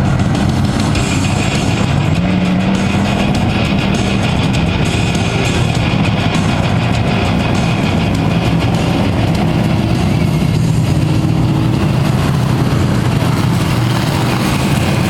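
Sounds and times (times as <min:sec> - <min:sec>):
race truck engines droning: 0:00.0 - 0:15.0.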